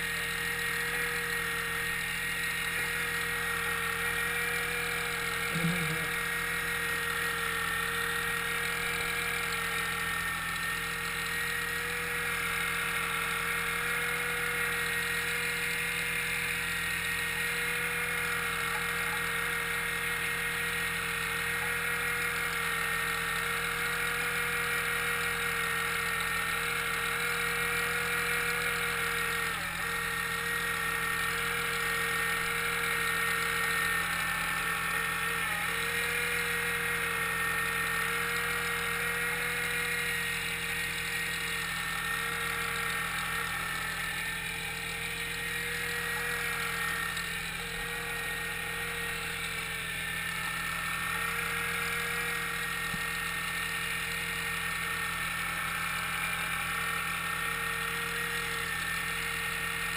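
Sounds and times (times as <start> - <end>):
diesel engine running: 0.0 - 57.9
mechanical whine: 0.0 - 59.9.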